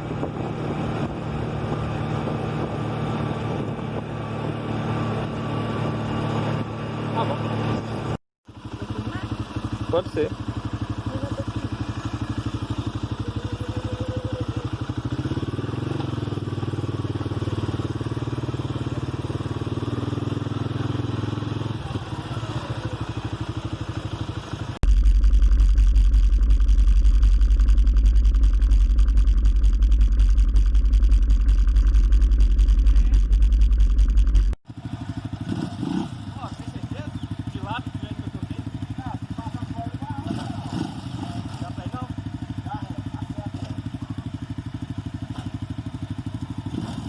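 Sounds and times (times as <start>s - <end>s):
loud deep engine rumble: 0.0s - 47.0s
quad bike engine running: 0.0s - 47.0s.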